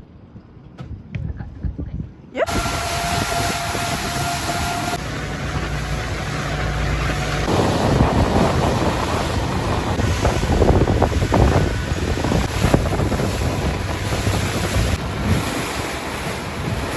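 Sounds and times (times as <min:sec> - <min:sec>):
wind buffeting microphone: 0:00.1 - 0:16.9
boat engine humming: 0:02.4 - 0:16.9
water noise: 0:02.4 - 0:16.9.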